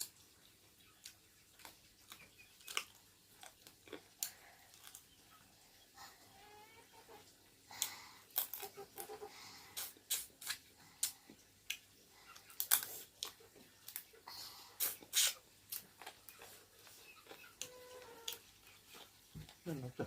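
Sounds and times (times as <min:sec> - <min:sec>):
person chewing and crunching: 0:01.0 - 0:05.4, 0:07.7 - 0:19.6.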